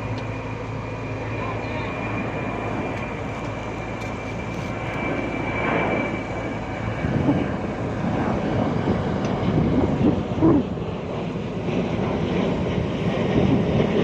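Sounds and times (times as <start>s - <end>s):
diesel engine drone: 0.0s - 14.0s.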